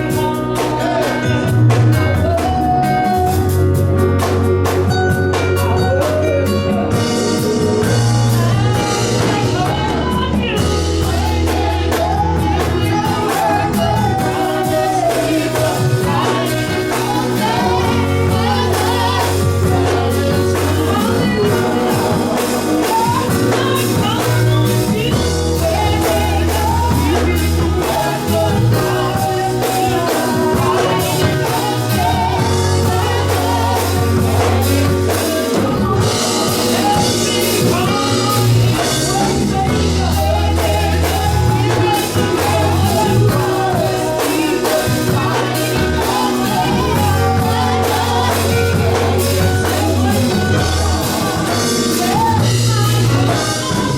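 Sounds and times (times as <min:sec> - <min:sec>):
person singing: 0:00.0 - 0:03.9, 0:05.0 - 0:53.9
gospel band playing: 0:00.0 - 0:53.9.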